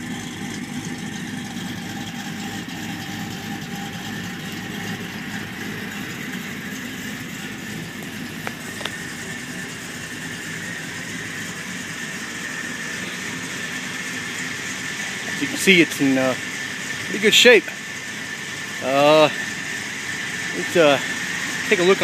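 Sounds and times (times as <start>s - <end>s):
vee eight engine idling: 0.0s - 22.0s.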